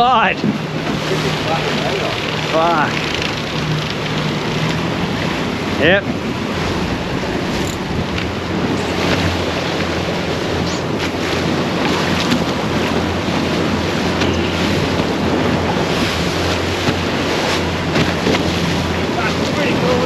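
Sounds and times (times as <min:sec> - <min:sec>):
outboard engine humming: 0:00.0 - 0:20.0
water rushing past hull: 0:00.0 - 0:20.0
wind buffeting microphone: 0:00.0 - 0:20.0.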